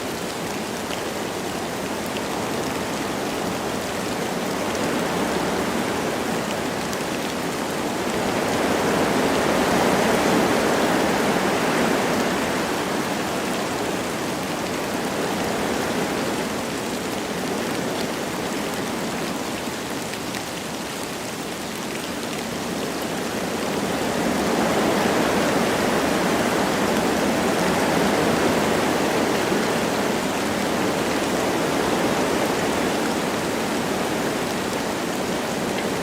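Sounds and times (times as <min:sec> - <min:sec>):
light rain falling: 0:00.0 - 0:36.0
wind blowing through trees: 0:00.0 - 0:36.0.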